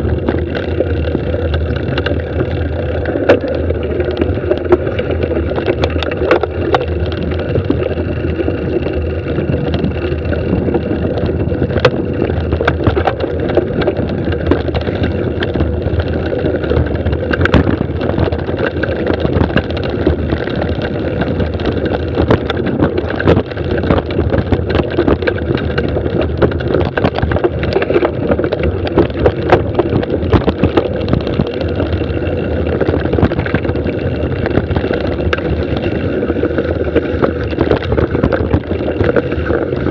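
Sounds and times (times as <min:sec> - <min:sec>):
bike rattling and knocking: 0:00.0 - 0:39.9
bike tyres on dirt trail: 0:00.0 - 0:39.9.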